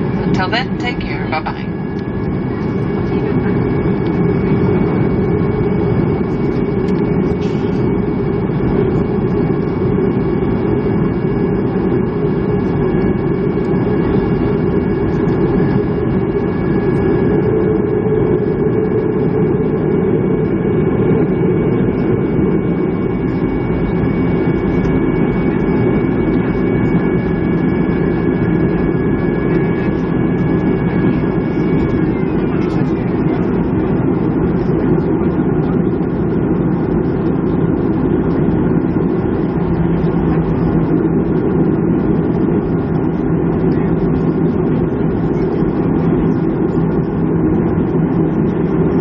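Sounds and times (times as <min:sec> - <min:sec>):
jet engines idling rumble: 0:00.0 - 0:49.0.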